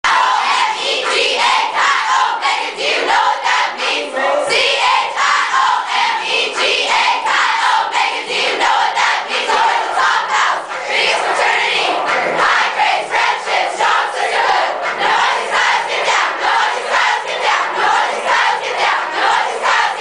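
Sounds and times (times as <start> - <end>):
women chanting: 0.1 - 20.0.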